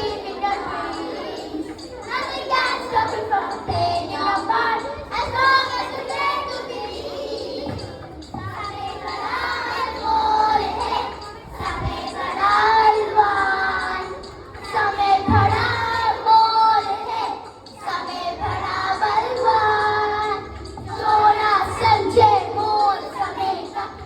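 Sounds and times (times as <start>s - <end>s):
young children singing together: 0.0s - 24.0s.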